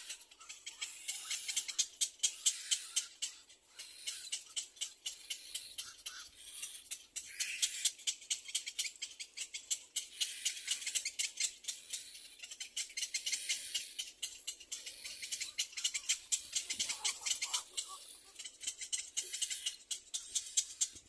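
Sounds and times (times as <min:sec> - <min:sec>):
chicks giving raspy rattling calls: 0:00.0 - 0:21.0.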